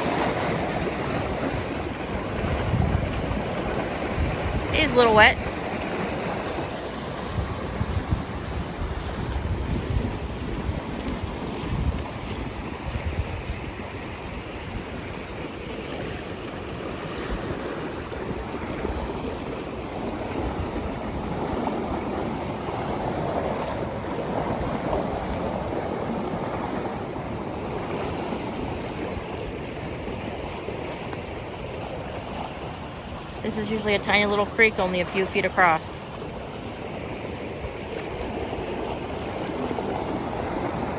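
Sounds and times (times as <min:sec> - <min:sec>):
creek rushing: 0:00.0 - 0:40.9
wind buffeting microphone: 0:00.0 - 0:40.9.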